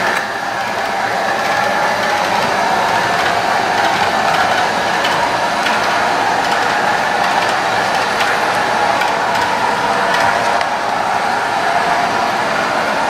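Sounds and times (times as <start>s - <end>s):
clicks at rail joints: 0.0s - 10.7s
model train wheels rolling: 0.0s - 11.3s.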